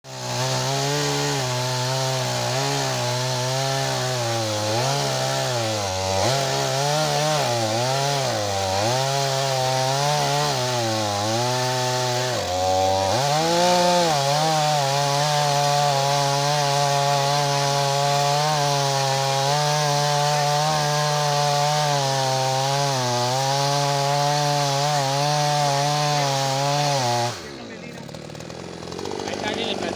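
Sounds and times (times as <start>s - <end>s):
chainsaw engine revving: 0.0s - 29.9s.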